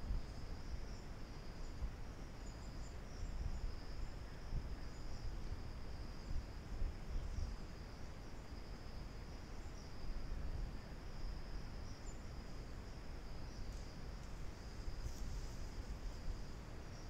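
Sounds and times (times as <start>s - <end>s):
crickets chirping: 0.0s - 17.0s
low microphone background noise: 0.0s - 17.0s.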